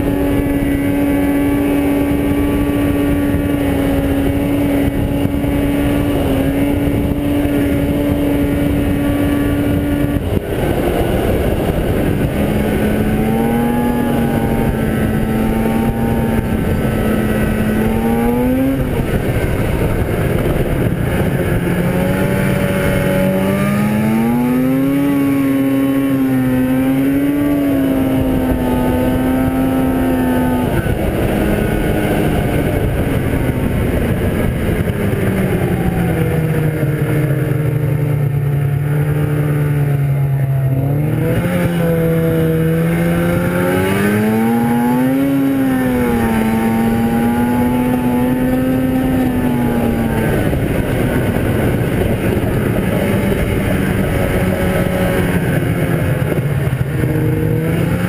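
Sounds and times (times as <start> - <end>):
snowmobile engine revving: 0.0 - 58.0
steady rushing noise: 0.0 - 58.0.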